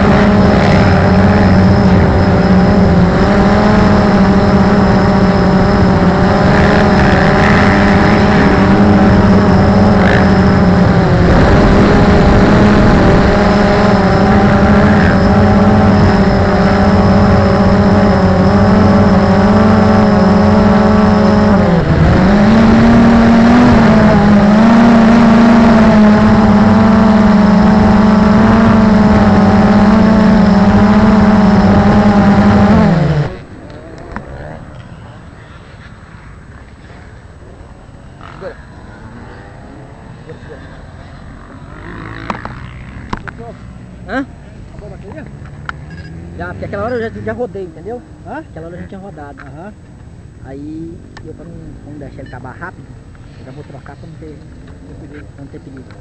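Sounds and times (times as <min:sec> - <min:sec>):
drone motors whining: 0:00.0 - 0:50.4.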